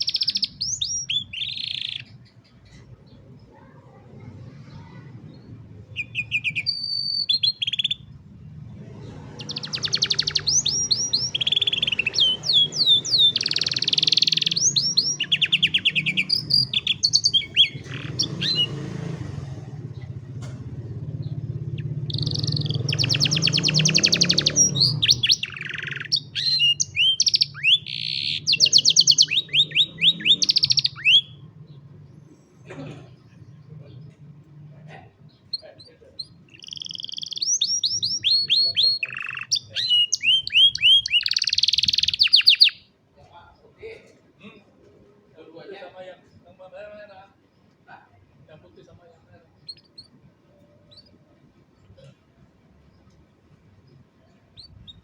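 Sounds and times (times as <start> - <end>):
canary singing trills: 0.0 - 32.4, 33.1 - 43.5, 45.6 - 55.0.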